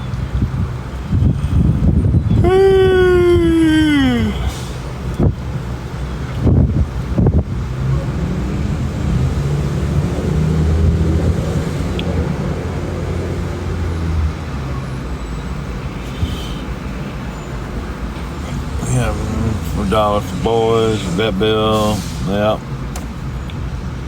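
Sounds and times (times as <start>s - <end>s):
traffic noise: 0.0s - 24.0s
vehicle engine hum: 0.0s - 24.0s.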